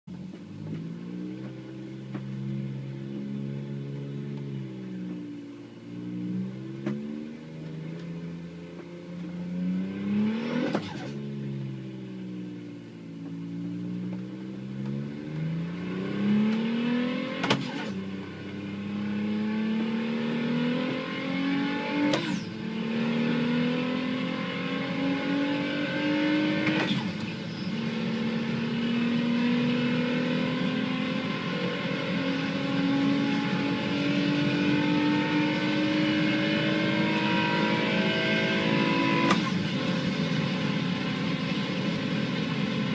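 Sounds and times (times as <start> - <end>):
car engine accelerating through gears: 0.1 - 42.9.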